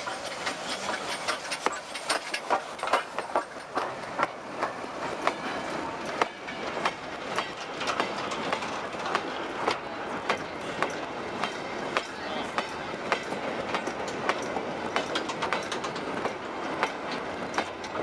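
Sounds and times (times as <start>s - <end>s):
train running rumble: 0.0s - 18.0s
train wheels clickety-clack: 0.0s - 18.0s.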